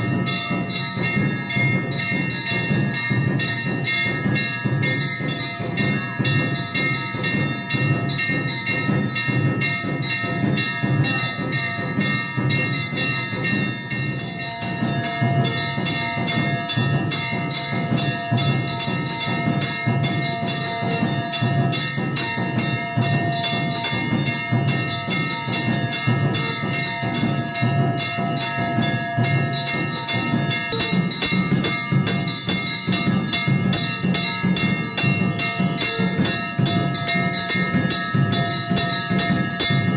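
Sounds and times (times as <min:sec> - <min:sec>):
temple bells ringing rapidly: 0:00.0 - 0:39.9.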